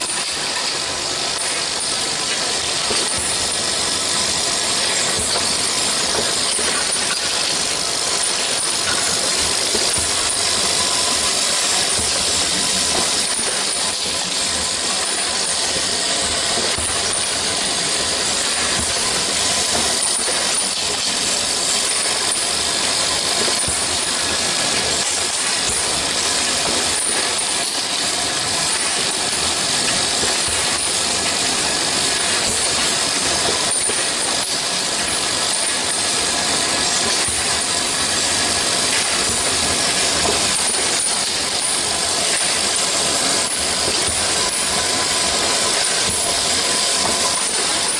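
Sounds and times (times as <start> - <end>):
machine whirring: 0.0 - 47.9.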